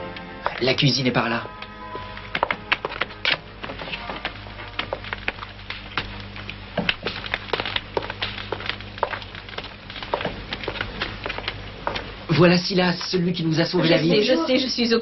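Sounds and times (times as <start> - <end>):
footsteps on stone floor: 0.0 - 14.0
low steady hum: 0.0 - 15.0.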